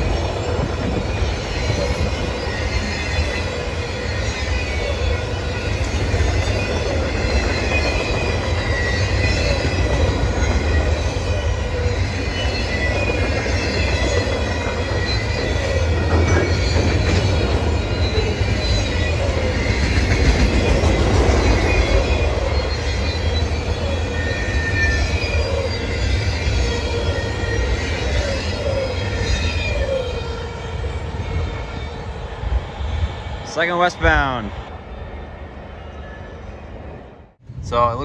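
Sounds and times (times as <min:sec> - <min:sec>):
wheels squealing: 0:00.0 - 0:33.6
train wheels rumbling on rail: 0:00.0 - 0:38.0.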